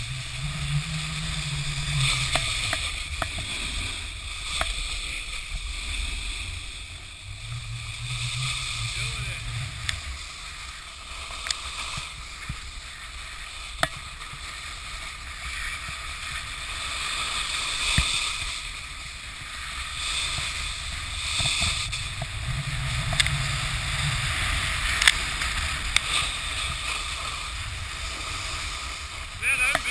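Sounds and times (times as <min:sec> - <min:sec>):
snowboards scraping on snow: 0:00.0 - 0:29.9
wind rumble on microphone: 0:00.0 - 0:29.9.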